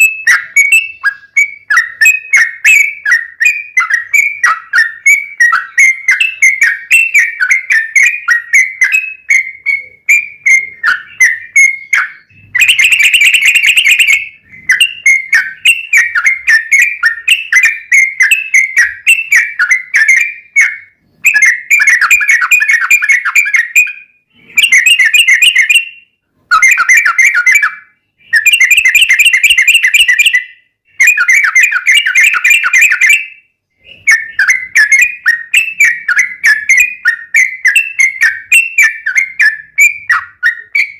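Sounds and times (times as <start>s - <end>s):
bulbul singing chirps and trills: 0.0s - 40.9s.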